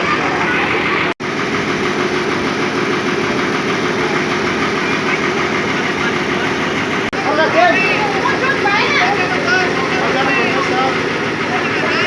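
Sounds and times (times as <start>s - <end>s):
bulldozer diesel engine chugging: 0.0s - 12.0s.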